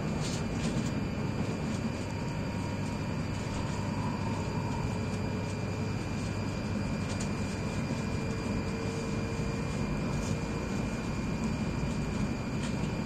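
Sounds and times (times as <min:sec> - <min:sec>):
high-speed train running rumble: 0:00.0 - 0:13.0.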